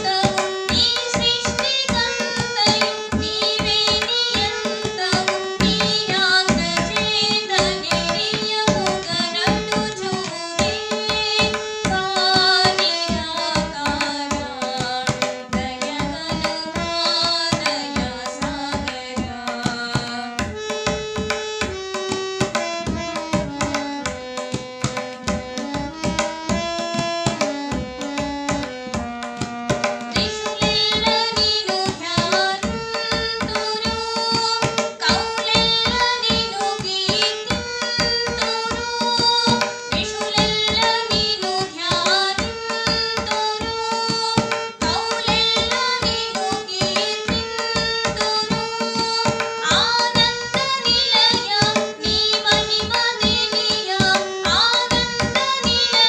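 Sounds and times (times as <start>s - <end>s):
harmonium notes: 0.0s - 56.0s
tabla rhythm: 0.0s - 56.0s
woman singing: 0.0s - 56.0s.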